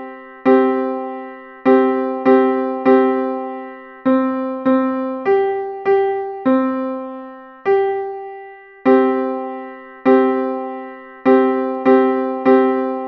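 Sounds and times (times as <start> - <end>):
piano notes ringing: 0.0 - 13.0.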